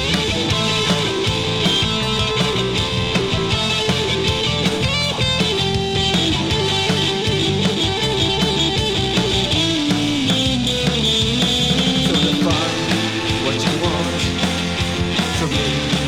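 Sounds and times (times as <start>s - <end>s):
drums: 0.0s - 16.0s
electric guitar: 0.0s - 16.0s.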